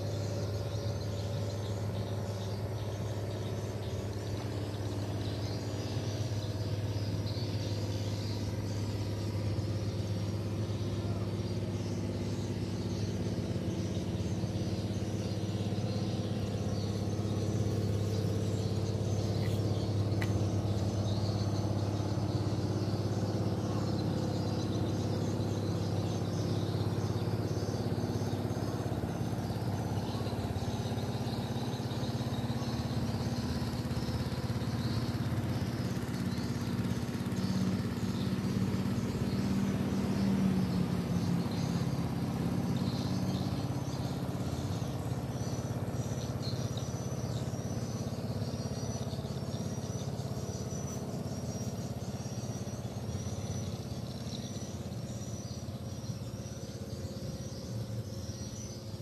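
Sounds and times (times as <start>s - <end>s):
faint high chirping: 0.0s - 59.0s
low motor hum: 0.0s - 59.0s.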